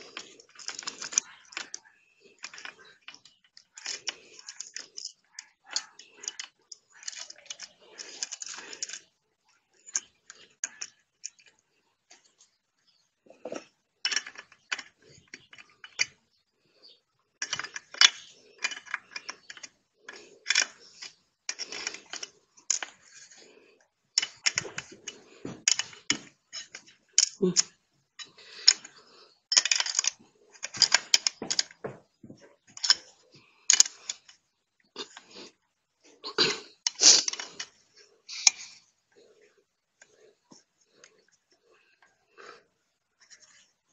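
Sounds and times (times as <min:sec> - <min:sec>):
small metal parts clicking: 0:00.0 - 0:12.4, 0:13.4 - 0:31.9, 0:32.7 - 0:34.4, 0:36.8 - 0:39.4.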